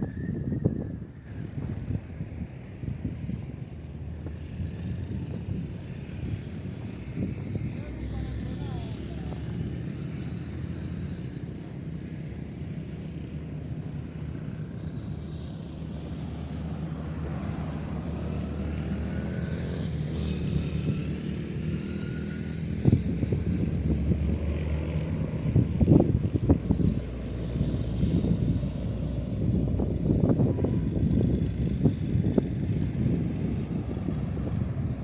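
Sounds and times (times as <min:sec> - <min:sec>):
engine drone: 0:00.0 - 0:35.0.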